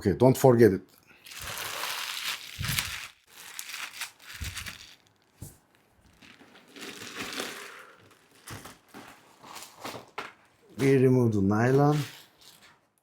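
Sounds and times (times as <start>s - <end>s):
plastic wrapping crinkling: 1.1s - 11.0s, 11.6s - 13.0s.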